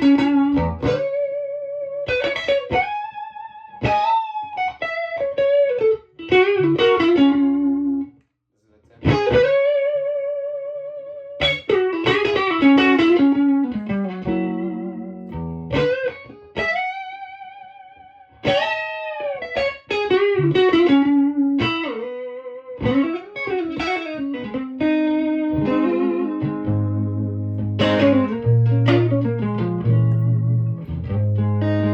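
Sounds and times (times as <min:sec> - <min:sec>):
electric guitar lead playing: 0:00.0 - 0:08.1, 0:09.0 - 0:31.9.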